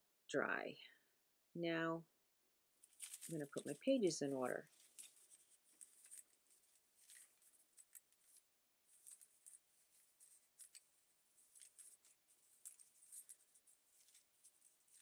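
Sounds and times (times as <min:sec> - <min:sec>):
paper pages rustling: 0:02.8 - 0:15.0.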